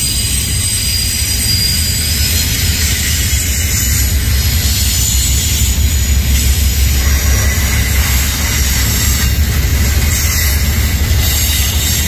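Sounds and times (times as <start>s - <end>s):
container train rumbling past: 0.0s - 12.0s.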